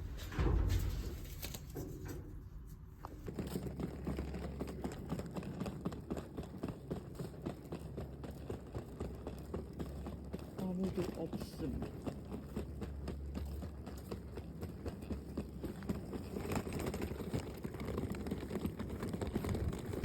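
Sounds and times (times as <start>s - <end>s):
suitcase wheels clattering: 0.0s - 20.0s.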